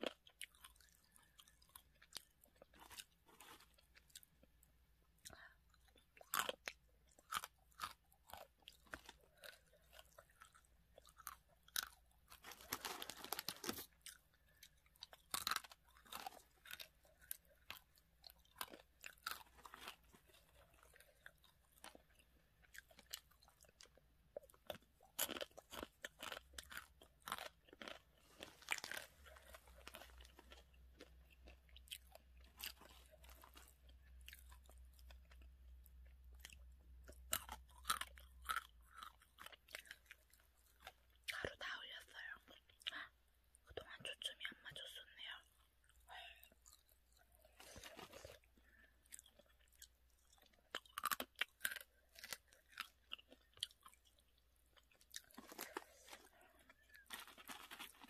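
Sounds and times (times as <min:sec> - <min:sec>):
crunching dry noodles: 0:00.0 - 0:04.6, 0:05.2 - 0:41.4, 0:45.8 - 0:58.0.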